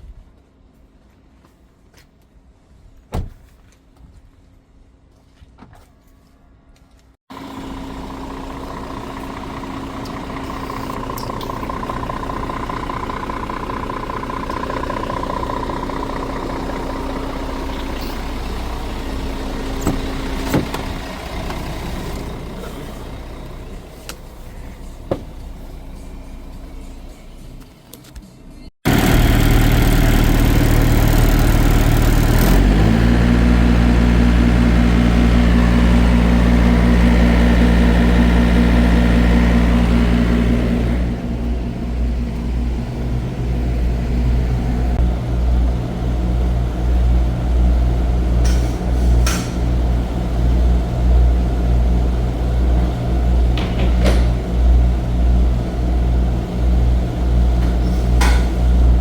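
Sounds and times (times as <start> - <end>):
truck diesel engine running: 7.3 - 27.6, 28.8 - 59.0.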